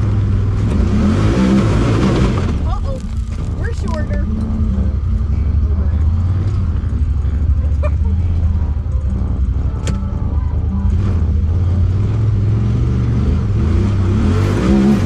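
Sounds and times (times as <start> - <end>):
utility vehicle engine running: 0.0 - 15.0.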